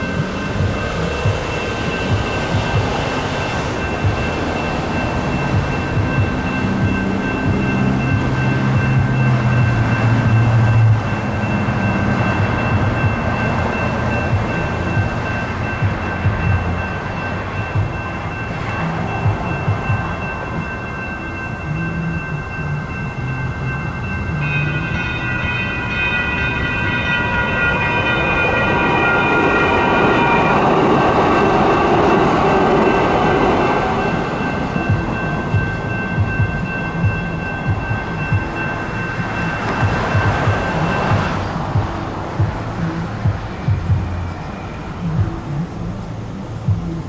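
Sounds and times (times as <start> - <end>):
electronic crossing bell ringing: 0.0 - 45.7
car passing: 0.0 - 47.0
train wheel and running noise: 0.0 - 47.0.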